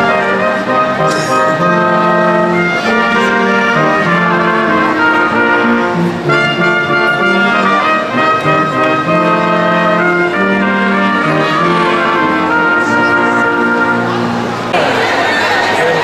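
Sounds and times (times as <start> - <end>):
brass ensemble playing chords: 0.0 - 16.0.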